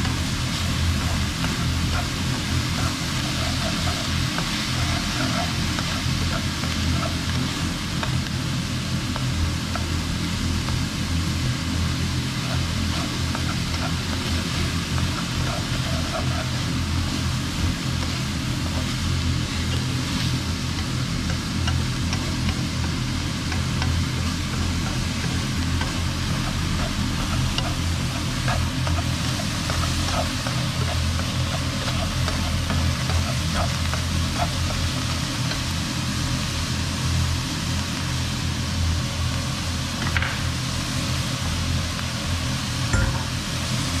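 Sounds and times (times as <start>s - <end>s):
food frying in a wok: 0.0s - 44.0s
steady low hum: 0.0s - 44.0s.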